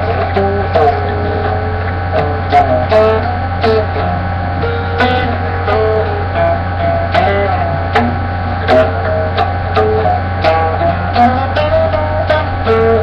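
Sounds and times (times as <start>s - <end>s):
guitar plucked and strummed: 0.0s - 13.0s
steady low hum: 0.0s - 13.0s.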